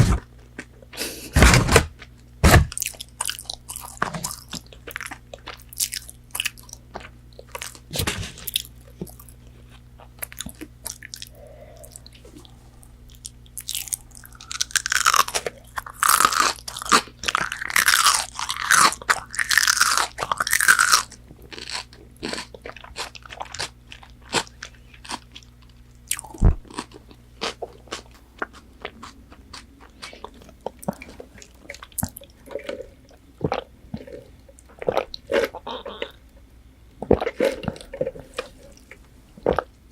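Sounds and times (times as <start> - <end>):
crunchy chewing: 2.0 - 39.8.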